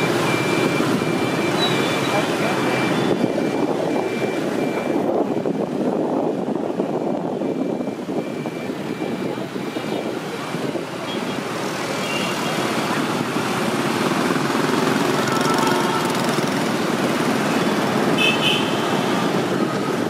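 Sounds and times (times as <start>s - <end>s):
motor scooter traffic rumble: 0.0s - 20.0s.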